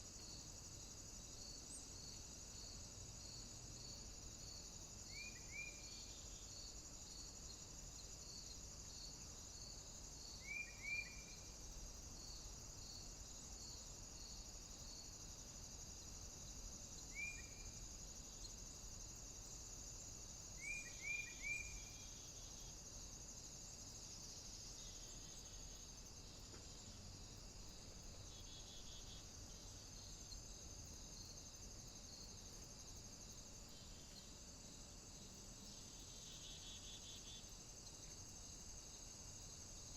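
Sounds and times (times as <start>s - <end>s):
crickets and insects chirping: 0.0s - 39.9s.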